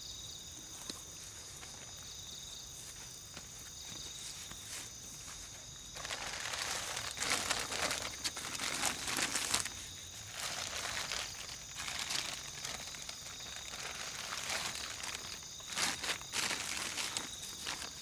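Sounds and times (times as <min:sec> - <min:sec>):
night insects droning: 0:00.0 - 0:18.0
crinkling and rustling: 0:02.8 - 0:18.0.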